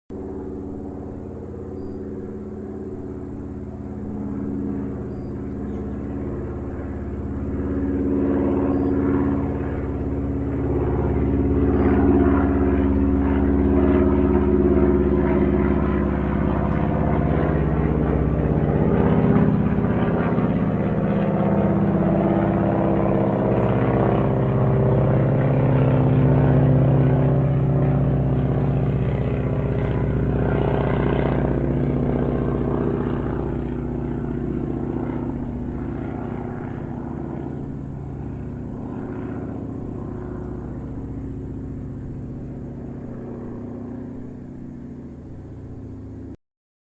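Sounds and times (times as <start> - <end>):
airplane engine drone: 0.1 - 46.4.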